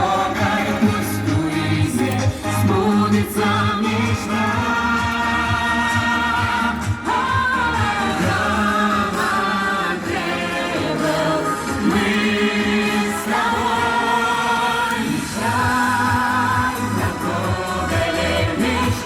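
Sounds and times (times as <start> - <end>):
group singing pop song: 0.0 - 19.0.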